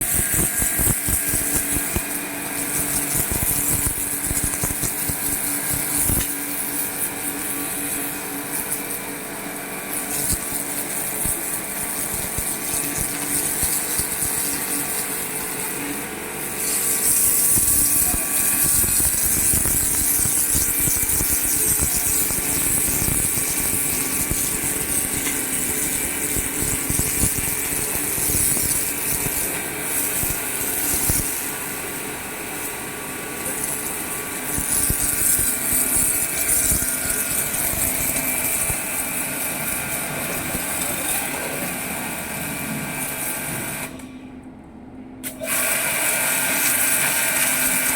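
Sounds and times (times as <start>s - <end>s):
water jet hissing: 0.0s - 44.0s, 45.2s - 47.9s
pressure washer motor hum: 0.0s - 47.9s.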